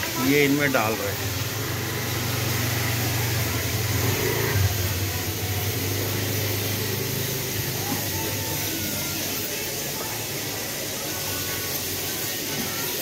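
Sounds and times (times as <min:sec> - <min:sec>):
furnace air blower running: 0:00.0 - 0:13.0.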